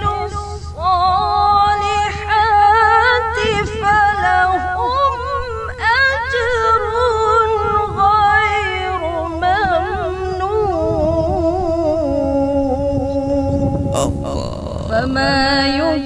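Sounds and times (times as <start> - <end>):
woman chanting melodically: 0.0 - 16.0.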